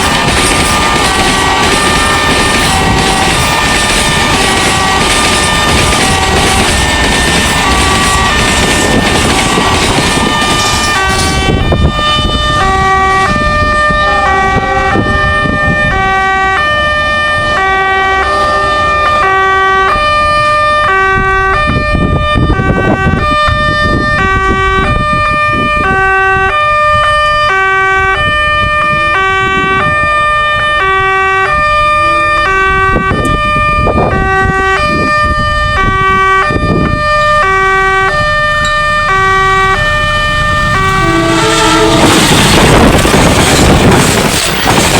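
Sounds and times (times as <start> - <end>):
level crossing warning siren: 0.0 - 44.9
train passing: 0.0 - 44.9.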